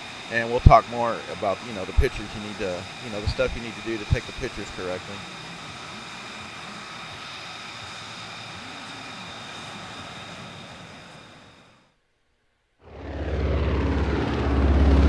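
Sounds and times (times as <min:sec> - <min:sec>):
loud low pulsing engine: 0:00.0 - 0:11.0, 0:12.9 - 0:15.0
jet engine high whine: 0:00.0 - 0:12.0, 0:12.8 - 0:15.0.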